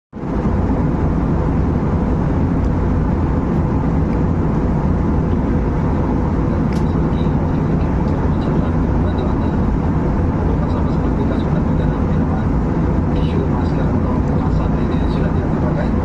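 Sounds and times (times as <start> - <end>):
airliner cabin engine rushing: 0.2 - 16.0.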